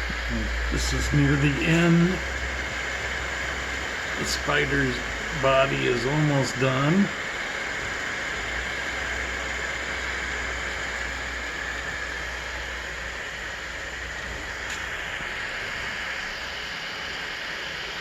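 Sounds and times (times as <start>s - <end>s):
low hum: 0.0s - 18.0s
printer fans hissing: 0.0s - 18.0s.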